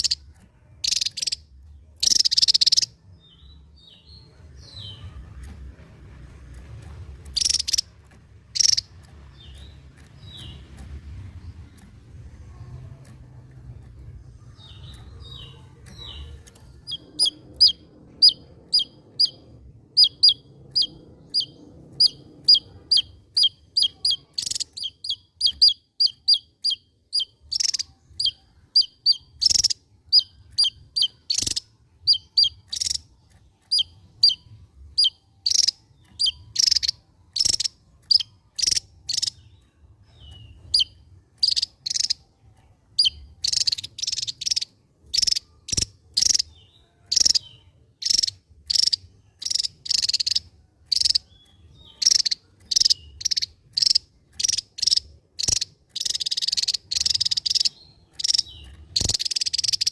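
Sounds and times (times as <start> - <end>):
bird singing high chirps: 0.0 - 5.9, 7.2 - 59.9.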